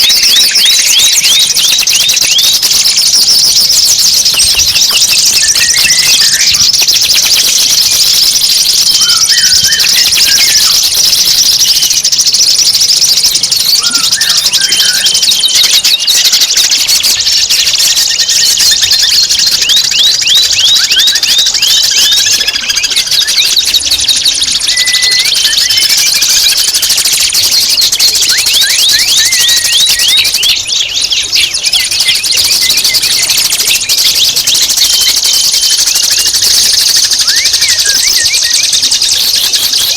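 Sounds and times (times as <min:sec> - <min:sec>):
downward-sweeping whistled notes: 0:00.0 - 0:17.2, 0:17.9 - 0:39.9
songbird chatter: 0:00.0 - 0:39.9.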